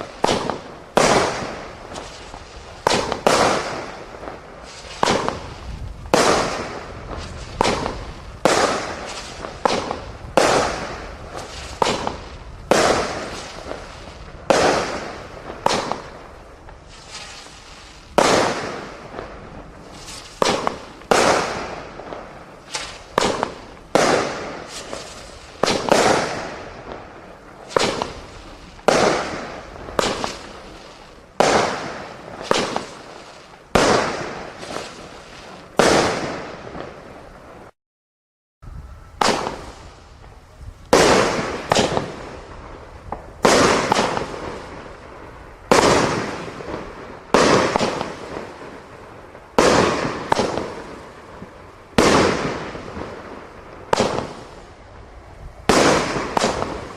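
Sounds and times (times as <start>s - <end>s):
fireworks bangs echoing: 0.0s - 37.7s, 39.1s - 54.9s, 55.6s - 56.9s.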